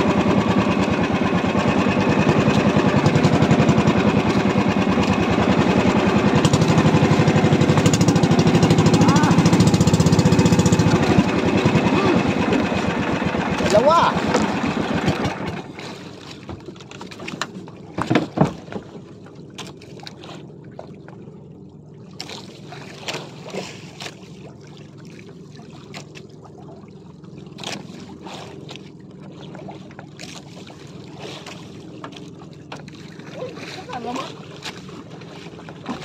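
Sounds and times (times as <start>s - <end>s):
low steady hum: 0.0s - 36.0s
water sloshing against boat hull: 0.0s - 36.0s.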